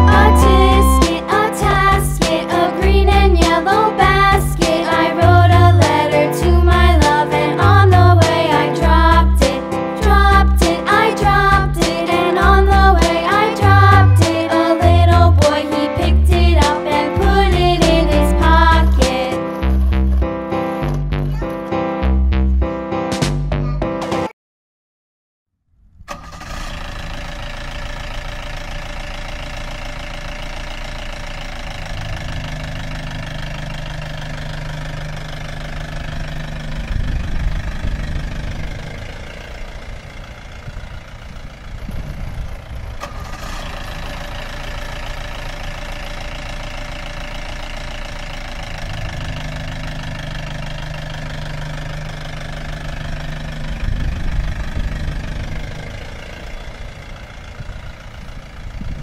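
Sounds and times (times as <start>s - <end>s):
vehicle engine idling: 0.0s - 21.9s, 25.8s - 59.0s.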